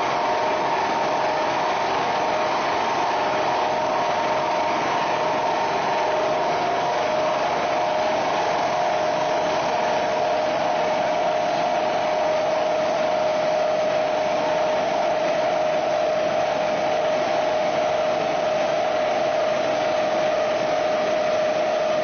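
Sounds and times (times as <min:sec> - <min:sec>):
milling machine whine: 0:00.0 - 0:22.0.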